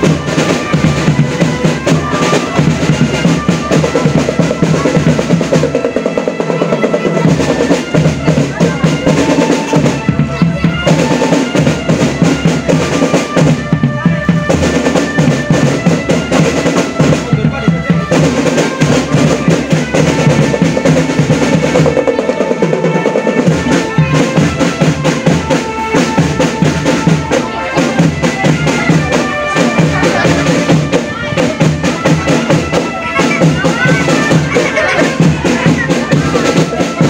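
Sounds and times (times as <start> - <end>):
snare drum rolls: 0.0 - 37.0.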